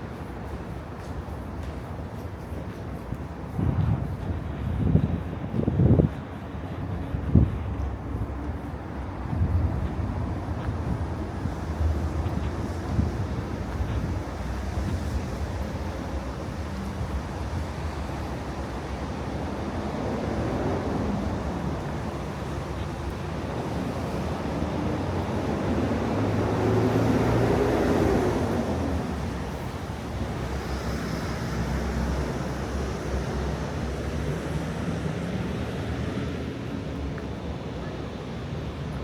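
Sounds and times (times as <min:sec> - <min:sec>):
low rumble of passing vehicles: 0:00.0 - 0:39.0.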